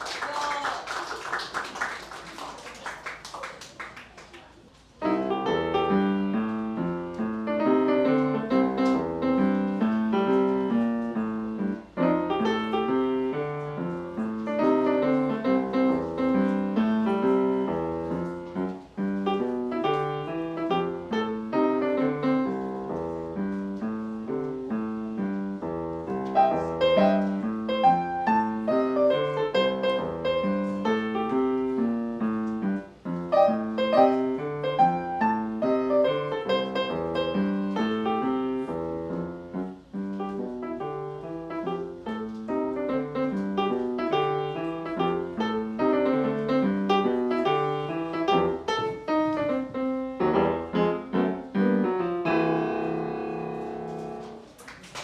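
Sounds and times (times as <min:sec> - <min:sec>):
solo swing piano: 0:04.4 - 0:55.0.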